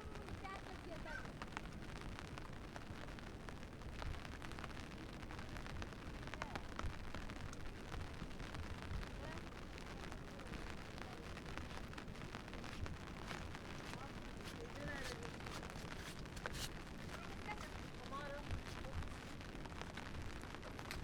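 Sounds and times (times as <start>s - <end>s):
sharp raindrop ticks: 0.0s - 21.0s
steady rain: 0.0s - 21.0s.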